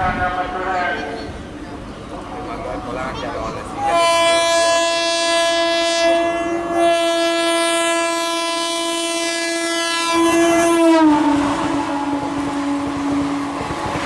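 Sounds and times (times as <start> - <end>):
passing train coaches rumbling: 0.0 - 14.0
locomotive horn blast: 2.4 - 14.0.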